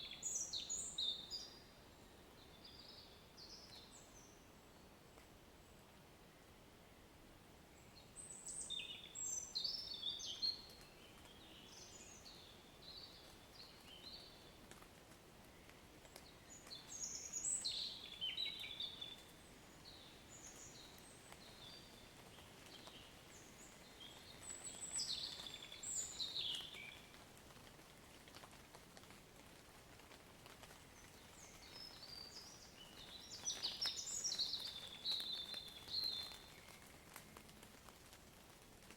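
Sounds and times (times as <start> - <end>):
songbird chirping: 0.0 - 27.2, 30.4 - 38.1
faint steady hiss: 0.0 - 38.9.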